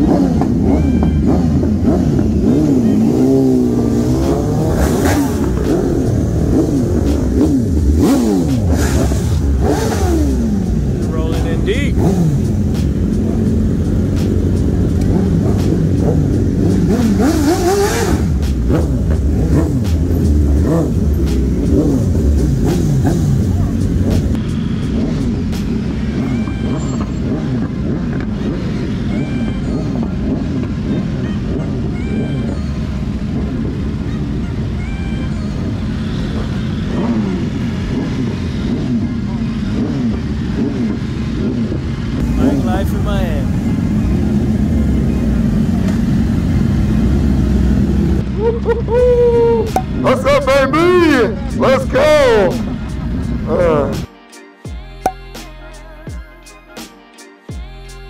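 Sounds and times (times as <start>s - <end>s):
sportbike engines revving: 0.0s - 54.1s.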